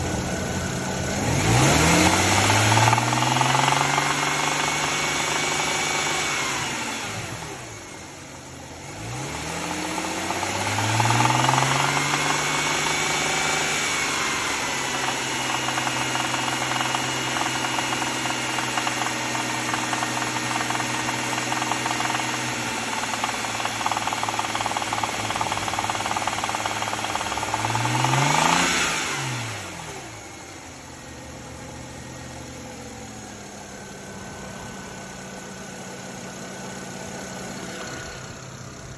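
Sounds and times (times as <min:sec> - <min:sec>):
car engine revving: 0:00.0 - 0:08.0, 0:08.8 - 0:38.9
engine rattling and knocking: 0:00.0 - 0:38.9.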